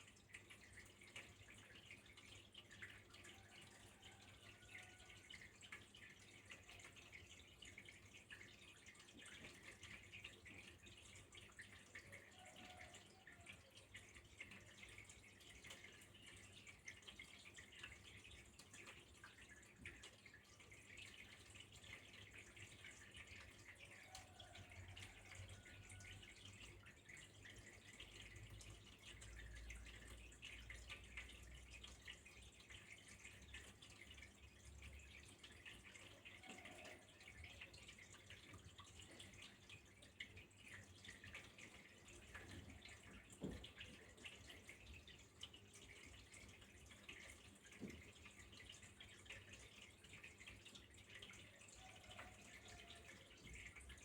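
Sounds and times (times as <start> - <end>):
trickle of flowing water: 0.0 - 54.0
water dripping and splashing: 0.0 - 54.0.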